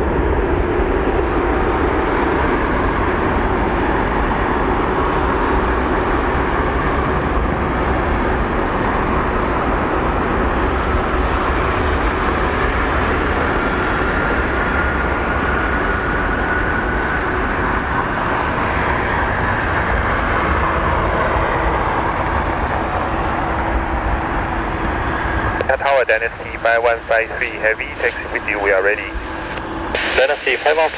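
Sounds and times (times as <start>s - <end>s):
faint high jet whine: 0.0s - 30.9s
loud jet engine noise: 0.0s - 30.9s.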